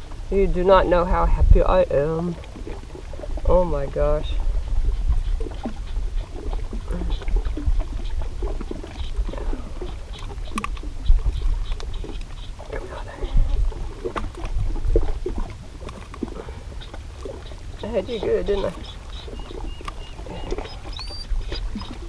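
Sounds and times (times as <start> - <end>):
small waves lapping on rocks: 0.0 - 22.0
wind rumbling on microphone: 0.0 - 22.0.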